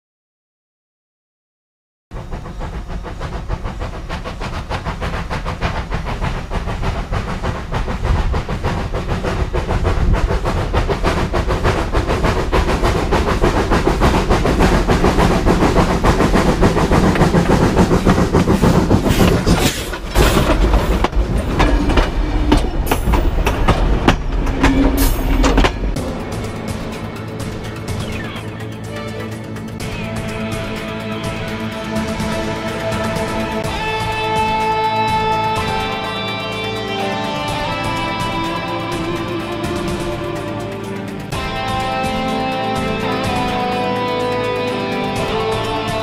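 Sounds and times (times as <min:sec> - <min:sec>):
steam locomotive rhythmic knocking: 0:02.1 - 0:46.0
wheels rumbling and clacking on rails: 0:02.1 - 0:46.0.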